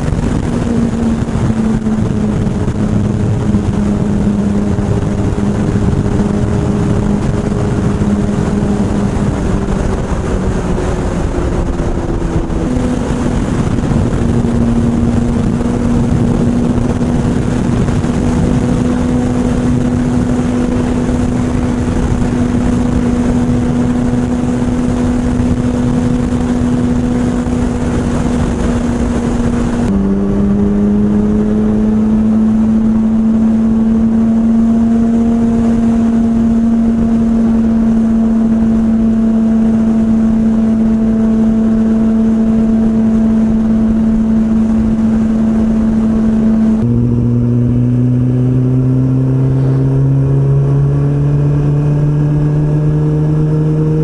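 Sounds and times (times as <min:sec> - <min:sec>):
motorcycle engine cruising: 0:00.0 - 0:54.0
wind noise: 0:00.0 - 0:54.0.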